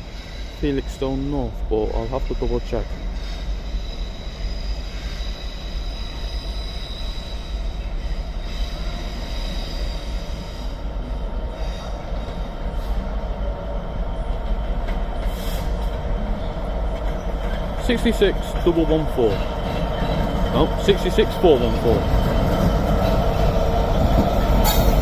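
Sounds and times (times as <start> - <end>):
high wheel squeal: 0.0 - 11.0, 15.2 - 25.0
train wagons rumbling past: 0.0 - 25.0.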